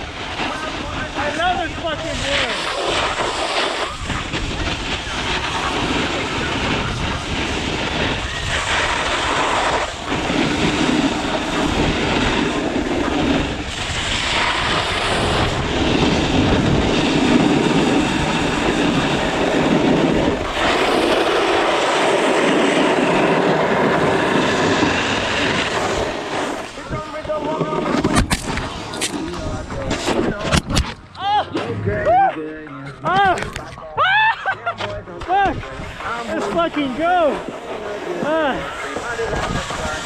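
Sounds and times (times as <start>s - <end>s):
snowboard scraping over snow: 0.0s - 30.8s, 34.3s - 40.0s
wind on microphone: 0.0s - 31.2s, 34.9s - 40.0s.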